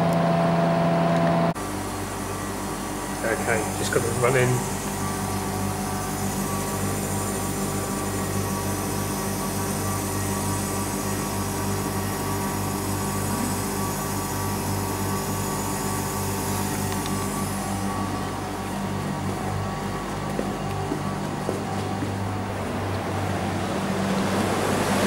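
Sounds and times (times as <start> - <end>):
compressor humming: 0.0 - 25.0.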